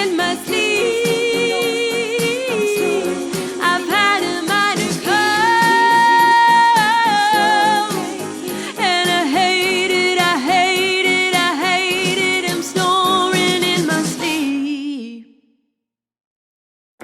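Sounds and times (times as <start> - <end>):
backing music: 0.0 - 14.4
person singing pop ballad: 0.0 - 15.1.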